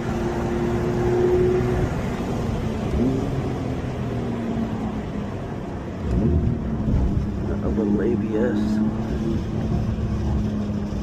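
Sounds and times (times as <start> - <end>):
car engine: 0.0 - 11.0.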